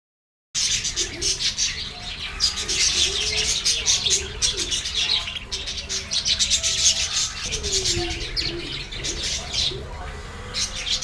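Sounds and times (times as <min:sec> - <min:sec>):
birds chirping chatter: 0:00.6 - 0:11.0.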